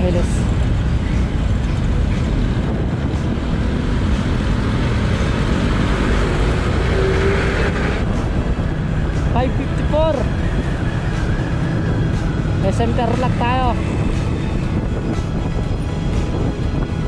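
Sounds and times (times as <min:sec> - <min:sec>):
motorcycle engine: 0:00.0 - 0:17.0
wind on microphone: 0:00.0 - 0:17.0.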